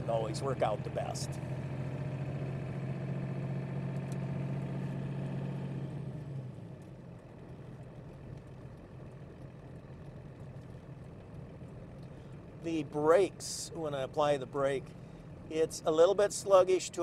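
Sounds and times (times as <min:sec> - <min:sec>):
road noise: 0:00.0 - 0:17.0
truck engine hum: 0:00.0 - 0:17.0.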